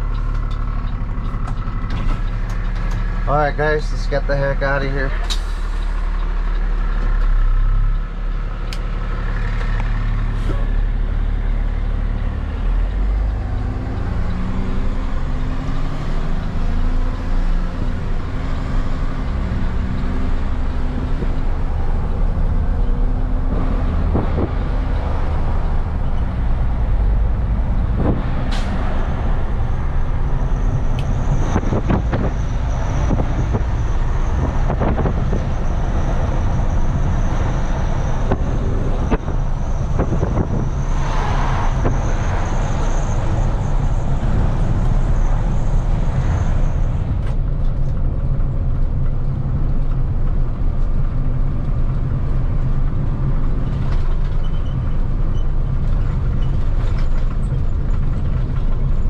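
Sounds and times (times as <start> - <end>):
road noise: 0.0 - 59.0
truck diesel engine accelerating: 0.0 - 59.0.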